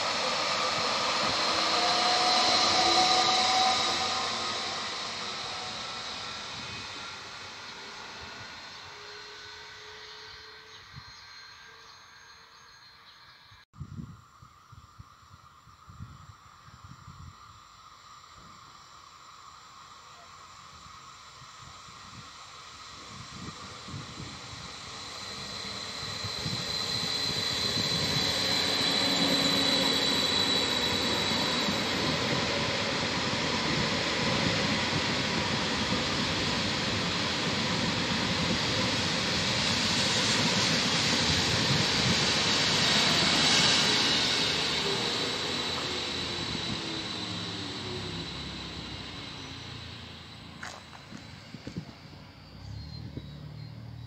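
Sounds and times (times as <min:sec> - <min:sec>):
train wheels rumbling on rail: 0:00.0 - 0:11.8, 0:20.6 - 0:54.0
faint high whine: 0:00.0 - 0:54.0.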